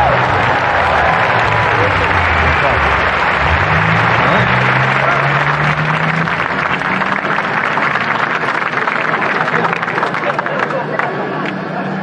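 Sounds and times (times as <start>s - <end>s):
audience applauding and cheering: 0.0s - 11.6s.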